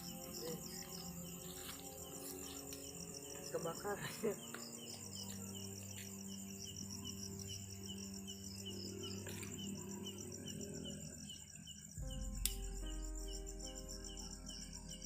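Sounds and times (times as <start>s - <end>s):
crickets and insects trilling: 0.0s - 15.0s
low musical drone: 0.0s - 15.0s.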